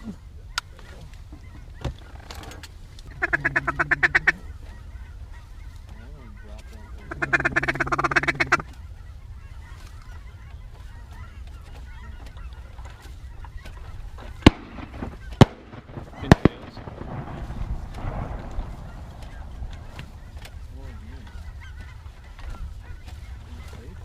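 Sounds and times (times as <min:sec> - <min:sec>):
waterfowl calling: 0:00.0 - 0:24.0.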